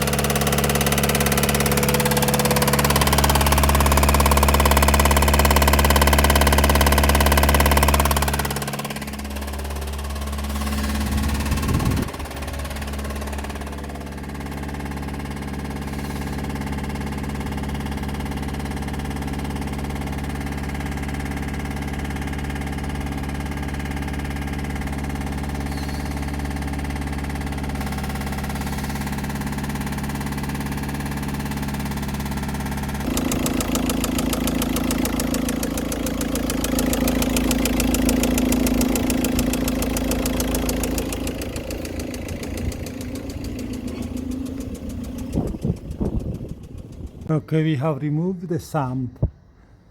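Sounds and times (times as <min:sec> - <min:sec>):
engine fast rattling: 0:00.0 - 0:47.3
diesel engine running: 0:00.0 - 0:49.9.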